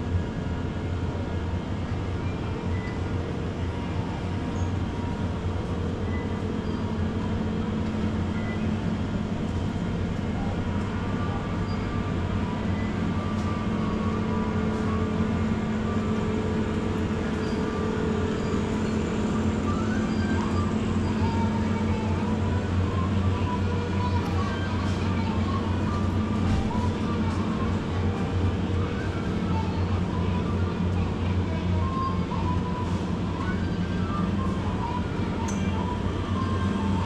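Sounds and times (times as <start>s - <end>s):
refrigeration and ventilation hum: 0.0s - 37.0s.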